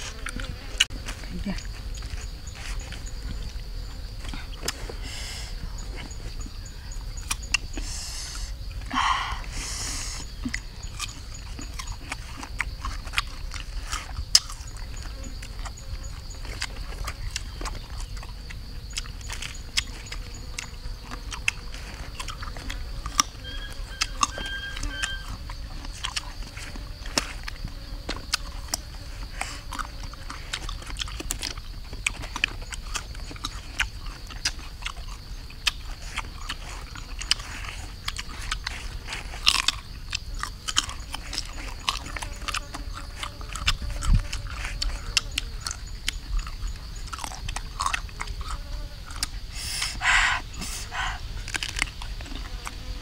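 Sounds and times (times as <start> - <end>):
person chewing crunchy fruit: 0.0 - 7.8, 10.0 - 53.0.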